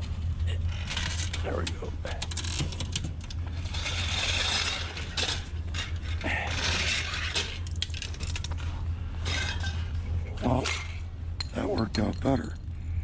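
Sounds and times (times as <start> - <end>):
sheet steel clinking and scraping: 0.6 - 12.5.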